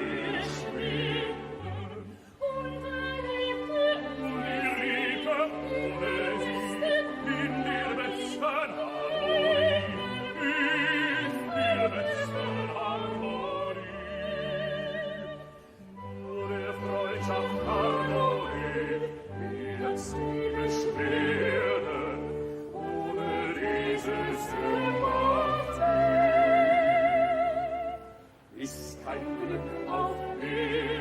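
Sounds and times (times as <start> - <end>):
operatic singing with vibrato: 0.0 - 31.0
orchestra playing: 0.0 - 31.0.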